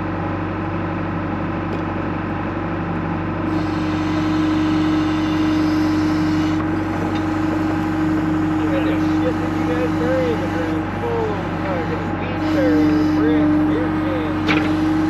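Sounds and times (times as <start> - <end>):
backhoe engine running: 0.0 - 15.0.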